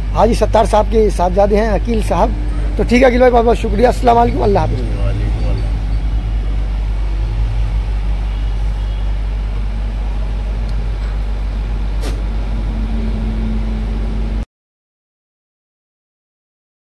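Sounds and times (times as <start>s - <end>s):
low engine hum: 0.0s - 14.4s.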